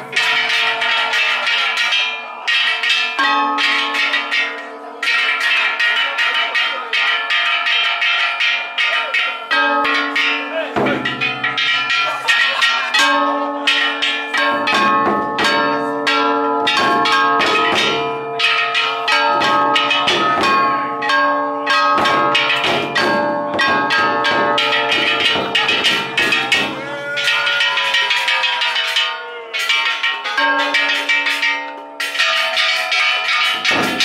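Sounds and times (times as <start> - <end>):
large drum beaten with sticks: 0.0 - 1.8, 2.6 - 34.0
metallic gongs clanging: 0.0 - 34.0.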